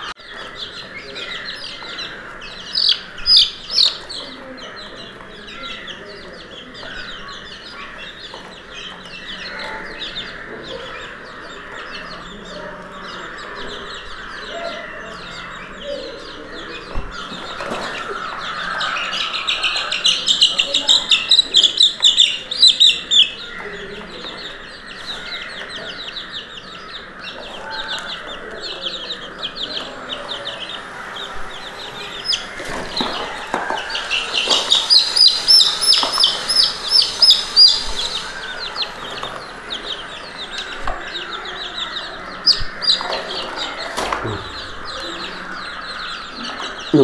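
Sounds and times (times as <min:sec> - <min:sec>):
chicks cheeping: 0:00.0 - 0:47.0.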